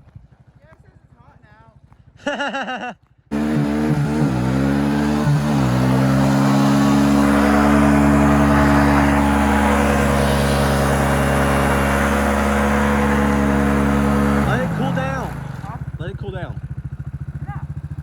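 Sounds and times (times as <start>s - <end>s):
vehicle engine running: 3.3s - 18.0s.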